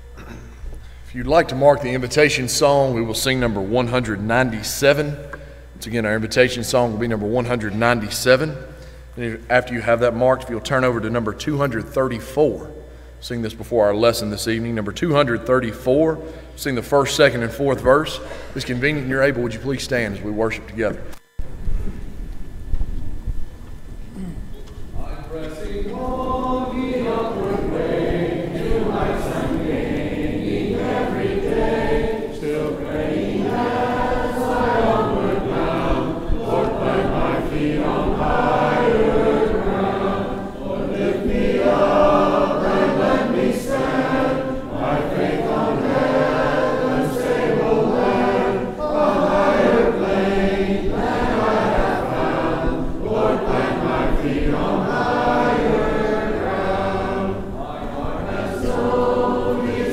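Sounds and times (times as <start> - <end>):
congregation singing a hymn: 0.0 - 21.1, 25.0 - 59.9.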